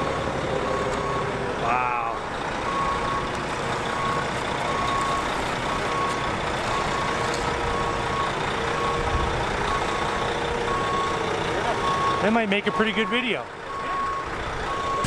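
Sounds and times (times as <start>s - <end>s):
engine running: 0.0s - 12.4s
vehicle backup alarm beeping: 0.0s - 15.0s.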